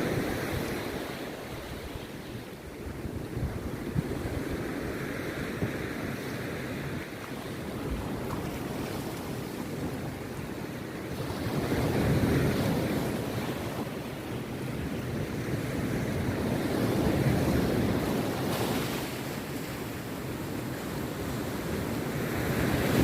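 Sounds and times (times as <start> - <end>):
sea surf breaking on beach: 0.0 - 23.0.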